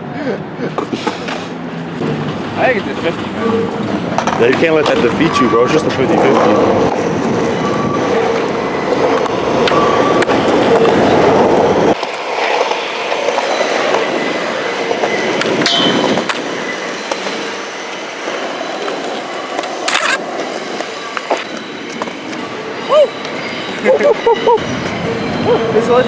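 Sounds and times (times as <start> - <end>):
skateboard wheels rolling on concrete: 0.0 - 22.6.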